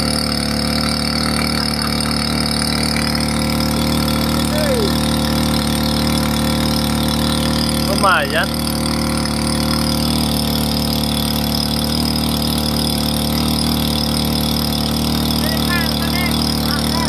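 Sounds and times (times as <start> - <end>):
small petrol engine running: 0.0 - 17.0.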